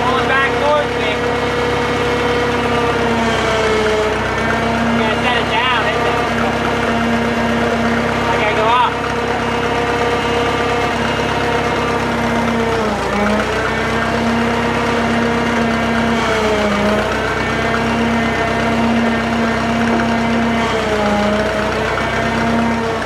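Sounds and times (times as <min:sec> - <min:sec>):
crane engine running: 0:00.0 - 0:23.0.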